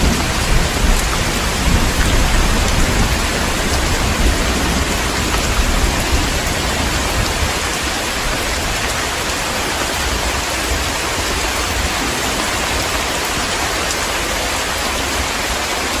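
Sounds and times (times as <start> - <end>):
low rumble of thunder: 0.0 - 13.5
heavy rain falling: 0.0 - 16.0.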